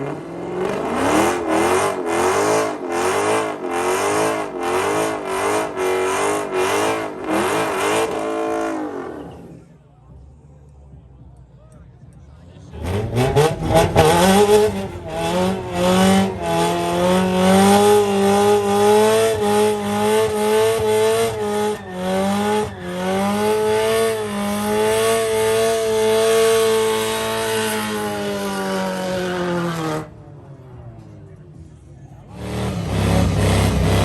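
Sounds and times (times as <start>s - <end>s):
car engine revving high: 0.0s - 9.6s, 12.7s - 30.2s, 32.3s - 34.0s.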